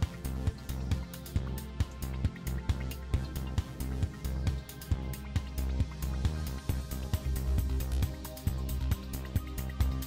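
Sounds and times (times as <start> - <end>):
sustained bass notes: 0.0 - 10.0.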